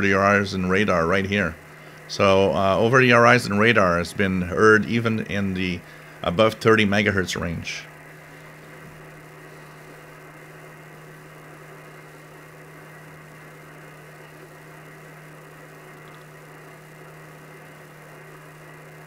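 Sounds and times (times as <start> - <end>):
radio static hiss: 0.0 - 19.0
steady low hum: 0.0 - 19.0.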